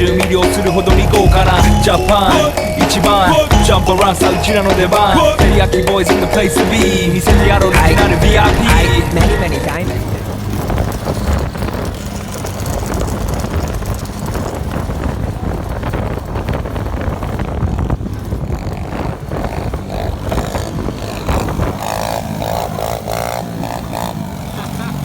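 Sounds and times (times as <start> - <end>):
pit bike engine running: 0.0 - 25.0.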